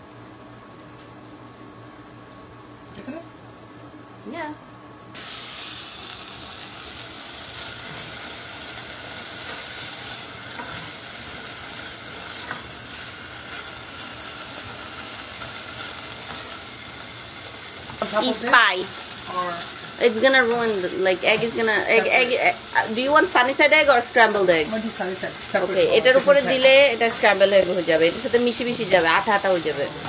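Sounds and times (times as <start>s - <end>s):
food sizzling in hot oil: 5.1s - 30.0s.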